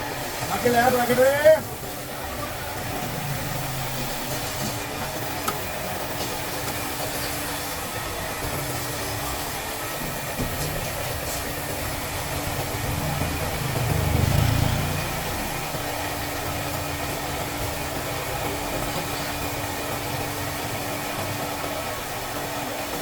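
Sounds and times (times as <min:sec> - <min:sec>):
engine-like running noise with hiss: 0:00.0 - 0:23.0.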